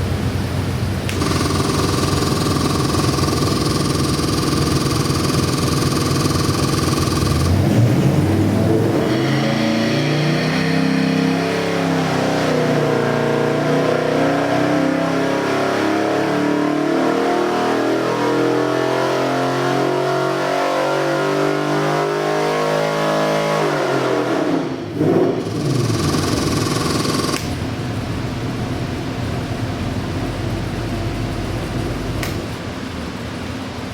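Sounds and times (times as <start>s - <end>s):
engine revving: 1.1s - 32.6s.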